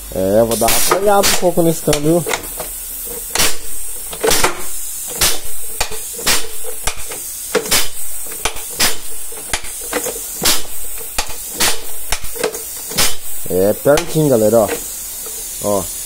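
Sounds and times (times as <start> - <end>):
steady high hiss: 0.0 - 16.0
gearbox metallic clunks: 0.5 - 15.4.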